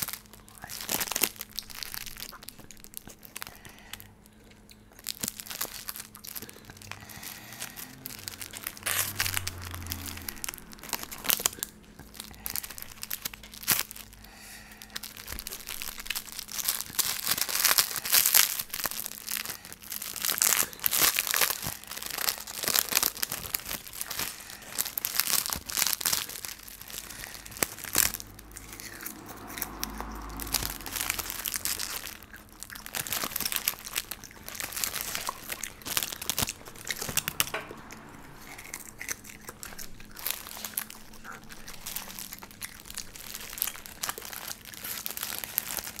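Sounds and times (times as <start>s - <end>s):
food packaging crinkling and tearing: 0.0s - 46.0s.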